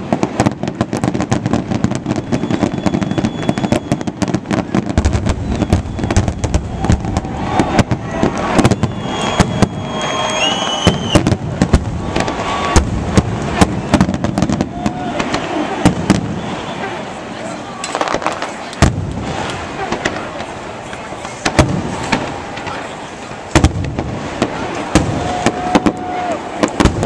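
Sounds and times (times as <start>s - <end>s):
fireworks bangs and crackling: 0.0s - 27.0s
fireworks whistling glides: 0.0s - 27.0s.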